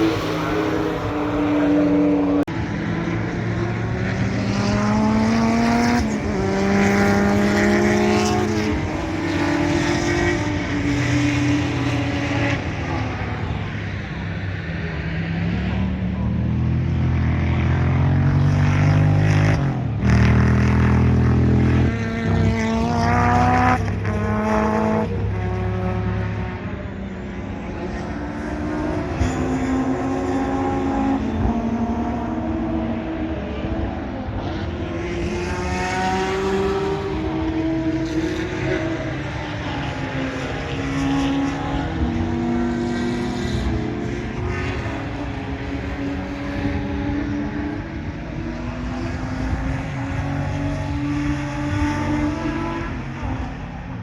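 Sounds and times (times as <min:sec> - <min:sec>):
racing car engines at full throttle: 0:00.0 - 0:54.0.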